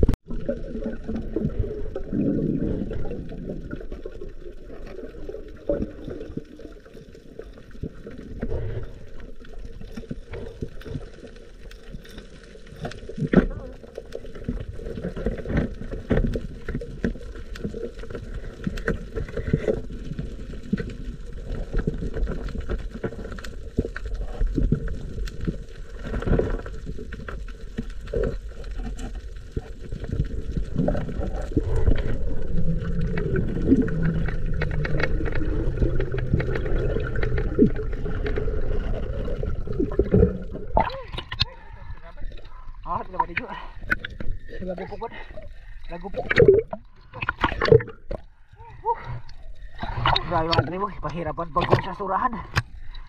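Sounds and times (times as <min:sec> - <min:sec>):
water sloshing and gurgling: 0:00.0 - 0:53.0.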